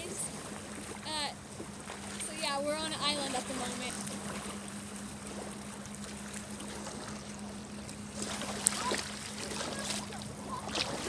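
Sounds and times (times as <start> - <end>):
boat engine idling: 0.0 - 11.0
water noise: 0.0 - 11.0
wind: 0.0 - 11.0.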